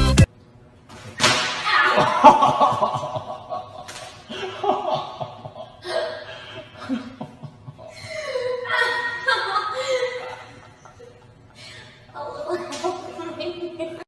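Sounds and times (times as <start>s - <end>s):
people laughing: 1.8s - 14.0s.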